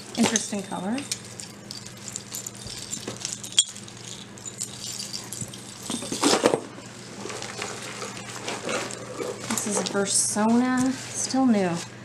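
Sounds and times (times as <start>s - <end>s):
necklace beads clinking: 0.0s - 10.0s.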